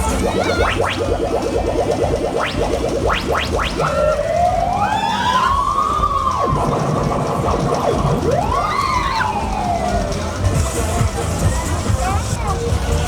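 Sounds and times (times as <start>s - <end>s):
wailing siren-like tone: 0.0s - 10.6s
rising electronic zaps: 0.0s - 10.8s
loud fairground music: 0.0s - 13.0s.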